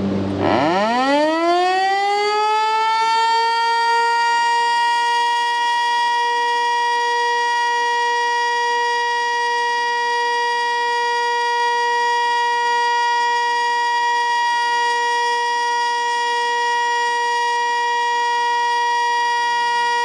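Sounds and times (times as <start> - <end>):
warning siren steady tone: 0.0 - 20.0.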